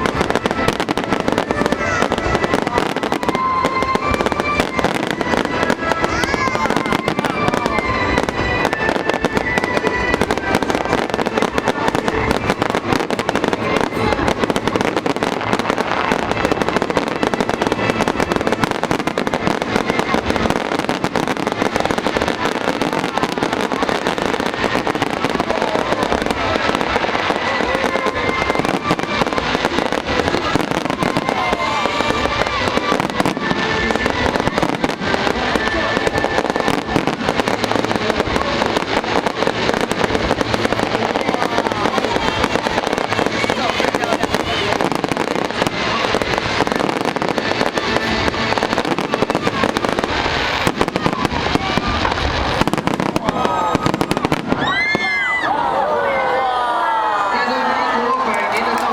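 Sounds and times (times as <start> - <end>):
music playing: 0.0 - 54.5
fireworks bursting and crackling: 0.0 - 58.9.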